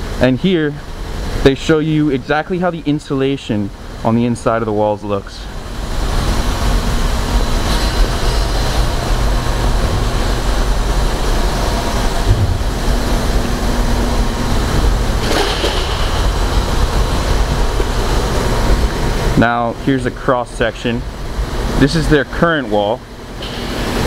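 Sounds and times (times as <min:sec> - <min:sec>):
even industrial hiss: 0:00.0 - 0:22.6
low factory rumble: 0:00.0 - 0:24.0.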